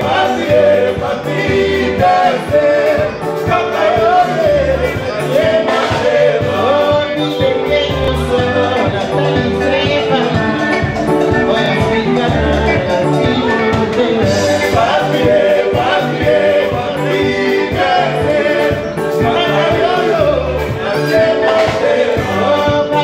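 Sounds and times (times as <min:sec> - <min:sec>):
live band playing: 0:00.0 - 0:23.0
men singing together: 0:00.0 - 0:23.0.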